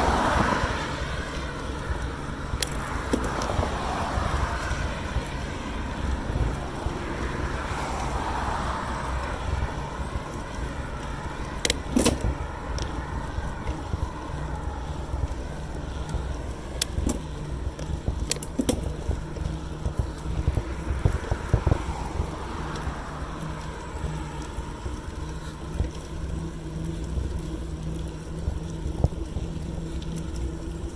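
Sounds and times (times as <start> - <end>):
bicycle clicks and rattles: 0.0 - 30.9
wind and tyre rumble: 0.0 - 30.9.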